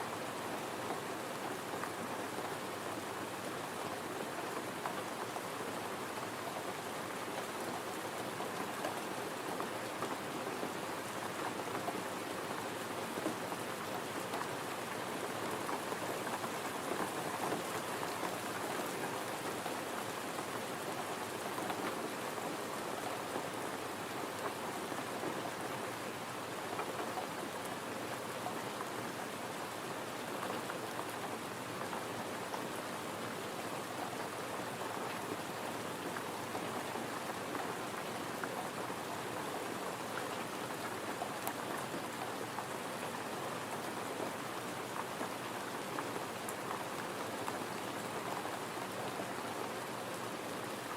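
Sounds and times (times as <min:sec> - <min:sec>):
gentle rain falling: 0:00.0 - 0:50.9.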